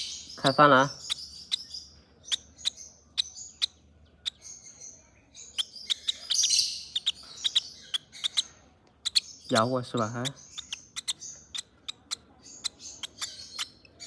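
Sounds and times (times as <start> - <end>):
baby parrots chirping: 0.0 - 14.0.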